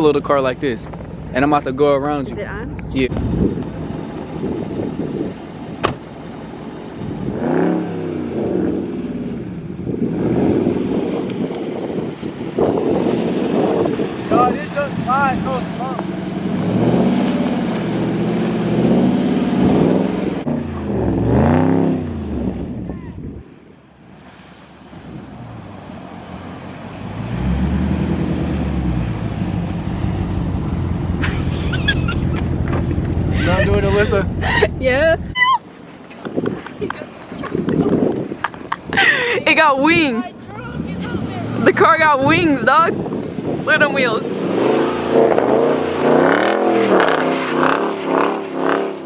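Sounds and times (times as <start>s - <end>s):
car engine revving: 0.0s - 23.0s, 24.2s - 35.4s, 37.4s - 49.0s.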